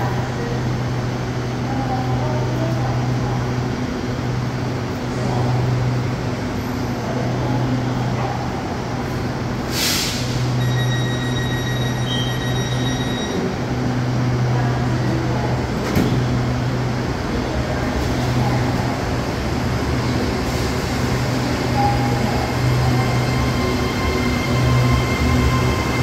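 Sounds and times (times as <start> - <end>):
train low mechanical hum: 0.0 - 26.0.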